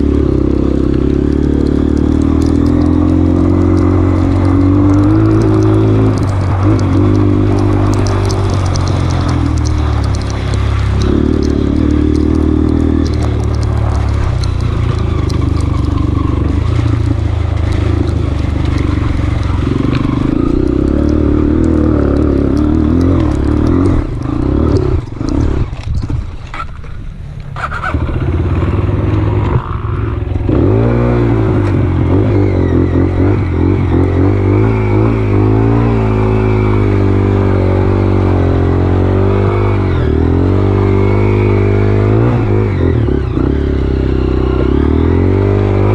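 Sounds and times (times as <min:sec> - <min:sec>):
motorcycle engine revving: 0:00.0 - 0:26.8, 0:27.6 - 0:45.9.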